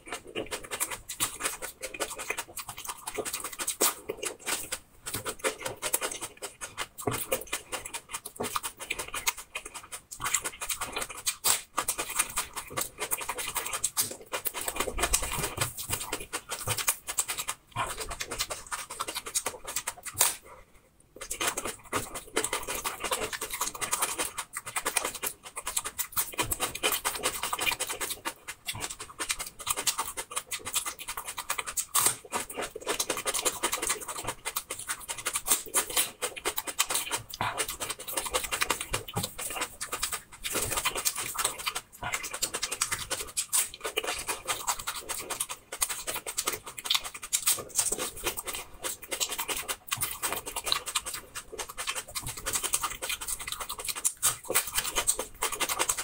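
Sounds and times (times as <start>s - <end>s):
crunching and chewing raw onion: 0.0s - 56.0s.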